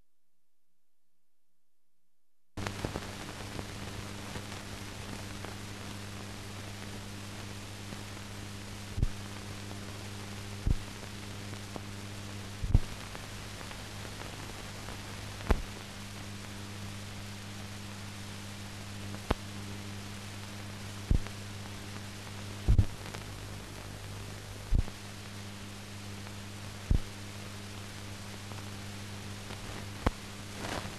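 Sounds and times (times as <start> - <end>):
low electrical hum and hiss: 2.6 - 30.9.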